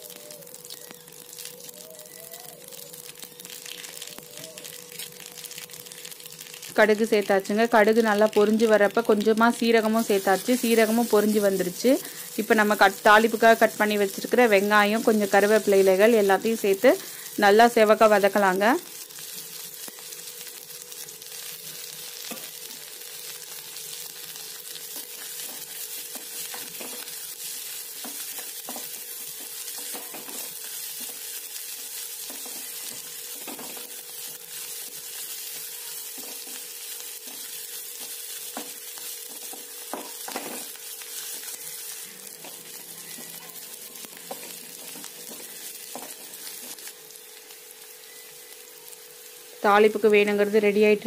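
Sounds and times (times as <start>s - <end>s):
onions sizzling in hot oil: 0.0s - 51.0s.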